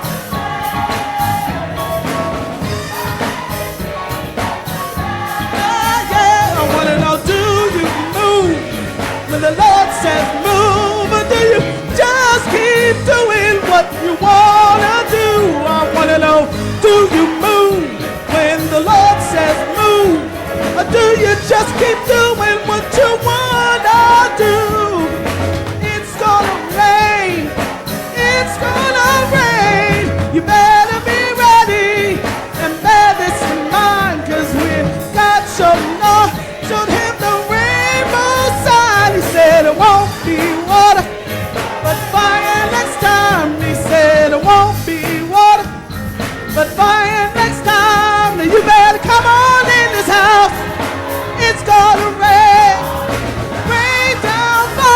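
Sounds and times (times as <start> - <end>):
band with steady drum beat: 0.0 - 54.9
voices singing with vibrato: 0.0 - 54.9.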